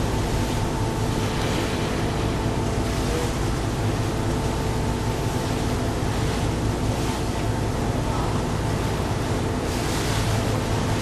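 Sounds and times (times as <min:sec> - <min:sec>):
boat engine droning: 0:00.0 - 0:11.0
sea water rushing: 0:00.0 - 0:11.0
wind: 0:00.0 - 0:11.0.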